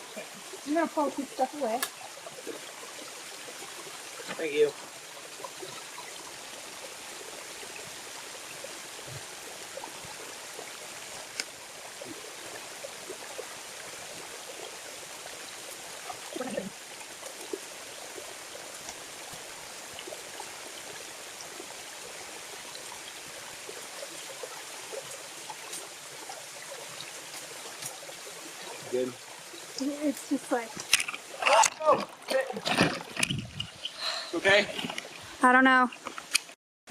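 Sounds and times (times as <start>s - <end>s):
small waterfall splashing into pool: 0.0s - 33.3s.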